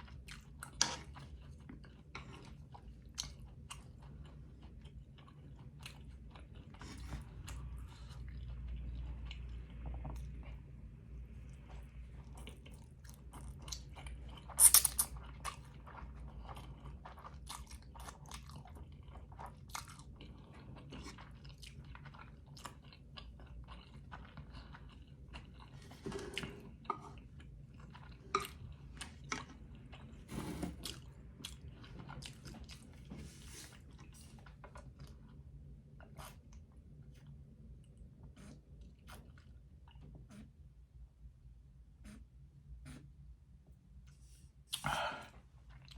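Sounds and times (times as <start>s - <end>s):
person chewing noodles: 0.0s - 40.7s, 44.1s - 45.9s.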